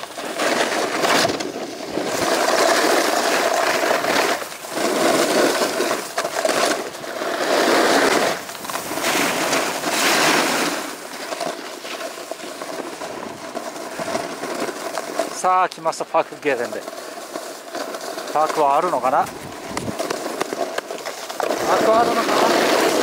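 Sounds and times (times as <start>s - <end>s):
snowboard scraping on snow: 0.0s - 23.0s.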